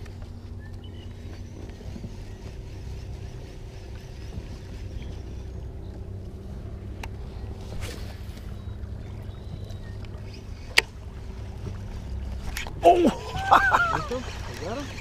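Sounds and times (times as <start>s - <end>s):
boat low rumble with hum: 0.0s - 15.0s.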